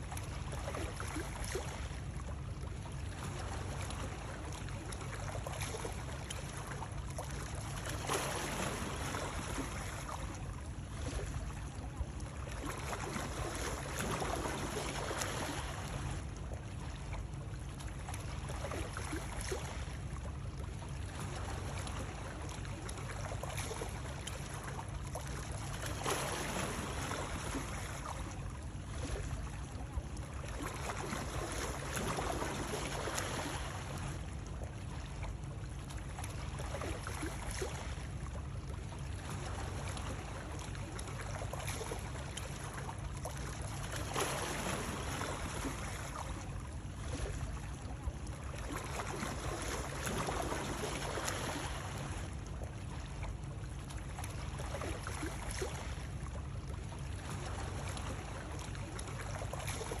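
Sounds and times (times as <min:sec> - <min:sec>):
water splashing and lapping: 0:00.0 - 1:00.0.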